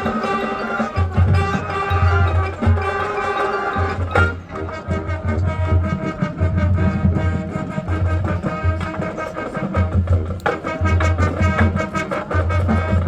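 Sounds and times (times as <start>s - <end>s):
marching band brass and woodwinds: 0.0s - 13.0s.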